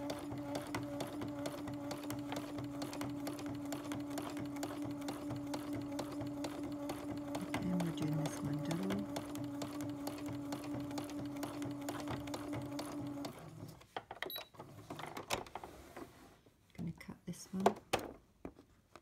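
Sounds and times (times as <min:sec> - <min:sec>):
sewing machine stitching: 0:00.0 - 0:16.0.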